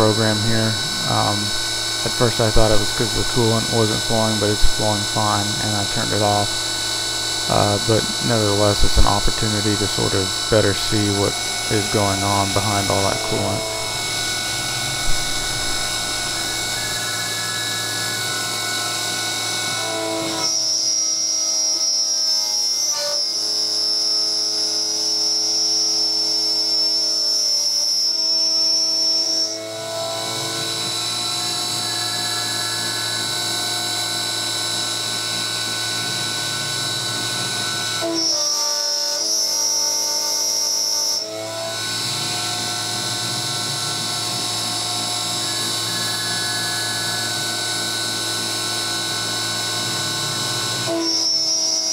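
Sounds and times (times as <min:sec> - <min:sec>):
higher-pitched whine: 0:00.0 - 0:51.9
spindle motor whine: 0:00.0 - 0:51.9.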